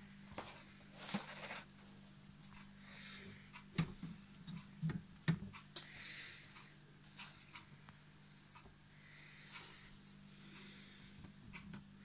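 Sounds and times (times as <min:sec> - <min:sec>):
incubator humming: 0:00.0 - 0:12.0.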